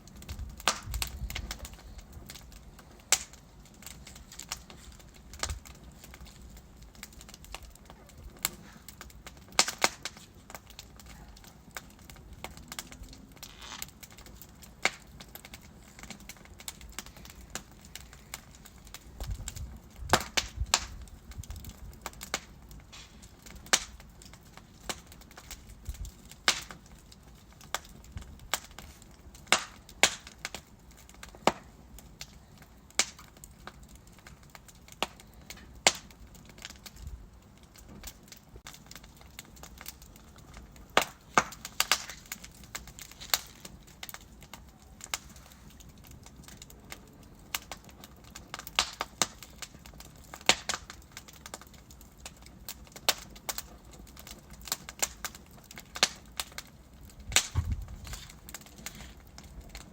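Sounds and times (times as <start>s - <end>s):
logs crackling and popping: 0.0s - 59.9s
low hiss of flames: 0.0s - 59.9s.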